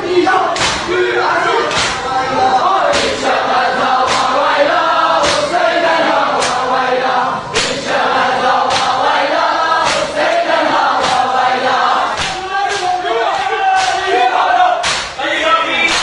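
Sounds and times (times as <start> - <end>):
crowd chanting in unison: 0.0 - 16.0
group chest-beating slaps: 0.5 - 6.8, 7.5 - 15.2.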